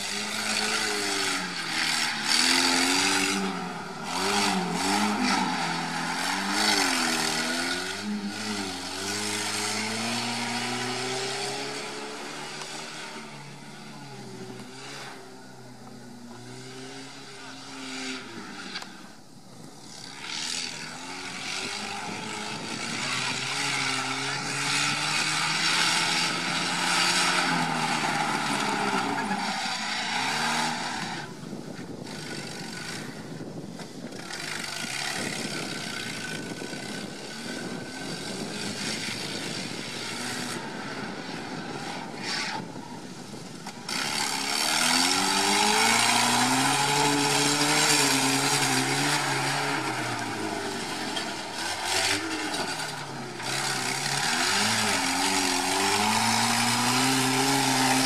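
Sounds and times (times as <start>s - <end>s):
off-road vehicle engine revving: 0.0s - 19.0s, 19.6s - 58.0s.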